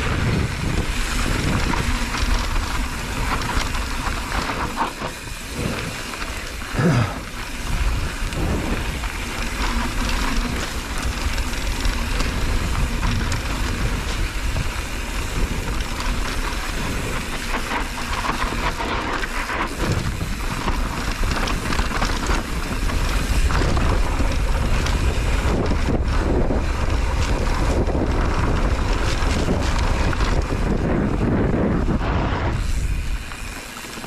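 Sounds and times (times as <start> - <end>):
bike clattering over bumps: 0.0 - 34.0
tyres crunching over loose dirt: 0.0 - 34.0
wind buffeting microphone: 0.0 - 34.0.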